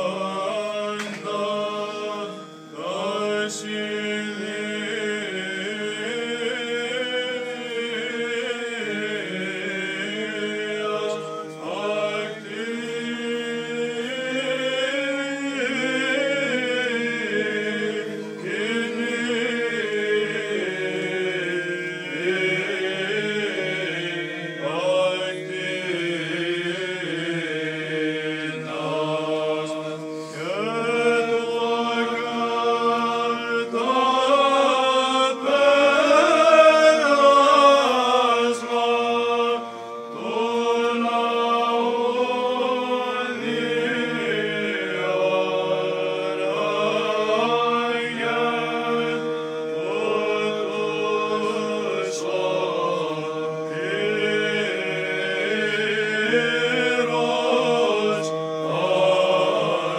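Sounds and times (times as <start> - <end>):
men chanting a hymn: 0.0 - 59.9.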